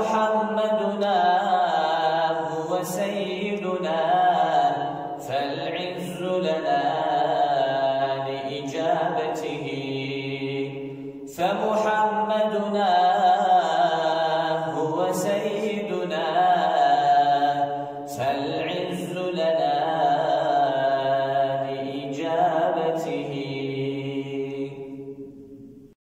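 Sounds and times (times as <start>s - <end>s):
man chanting unaccompanied: 0.0s - 24.9s.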